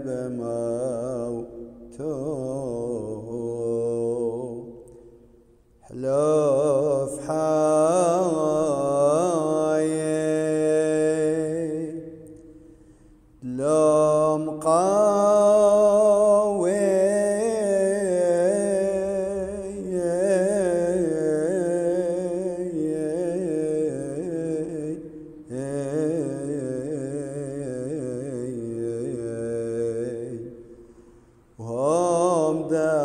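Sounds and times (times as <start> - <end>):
man singing a slow chant: 0.0 - 33.0.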